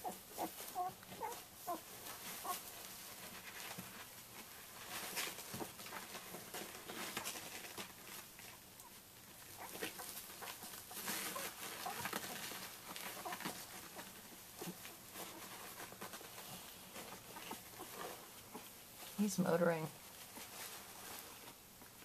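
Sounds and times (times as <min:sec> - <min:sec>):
bedding and paper rustling: 0:00.0 - 0:22.0.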